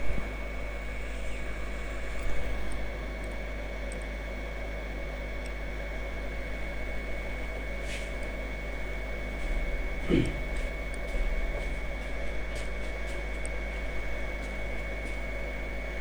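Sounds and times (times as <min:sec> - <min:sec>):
high fan whine: 0:00.0 - 0:16.0.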